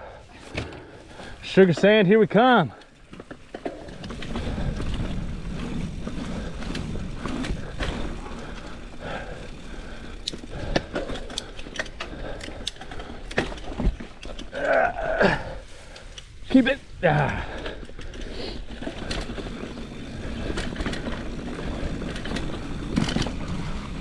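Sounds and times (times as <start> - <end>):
bike tyres in sand: 0.0 - 24.0
bike chain and frame rattling: 1.0 - 24.0.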